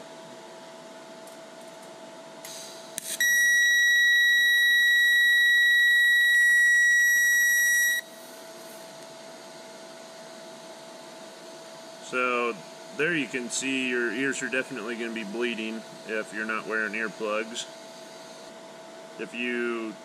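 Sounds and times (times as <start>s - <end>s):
welding arc high-pitched whine: 2.4s - 10.8s, 11.8s - 18.6s, 19.2s - 20.0s.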